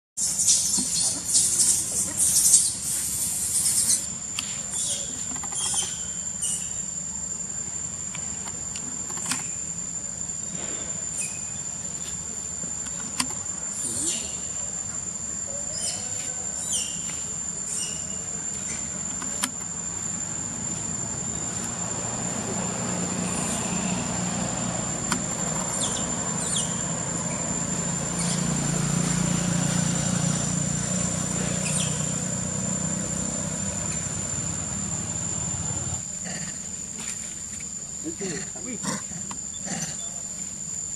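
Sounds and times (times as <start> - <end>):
high-pitched insect drone: 0.2 - 40.9.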